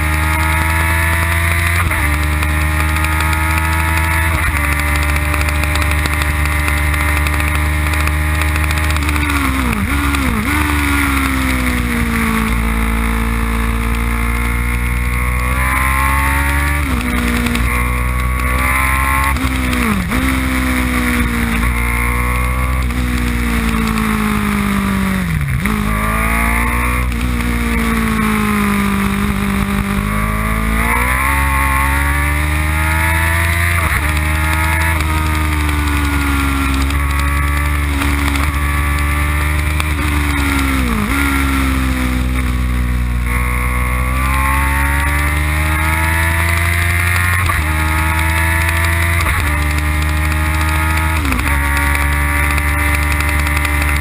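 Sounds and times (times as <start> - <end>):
race car engine at speed: 0.0 - 54.0.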